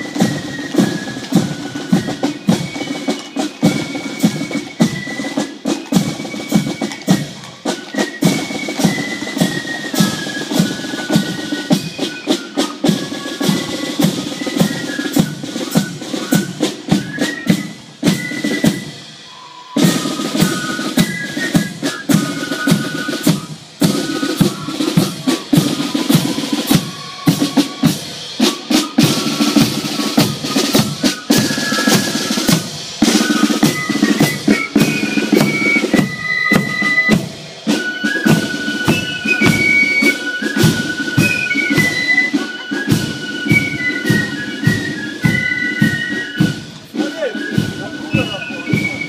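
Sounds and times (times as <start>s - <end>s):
high flute melody: 0.0s - 49.0s
snare and bass drums: 0.0s - 49.0s.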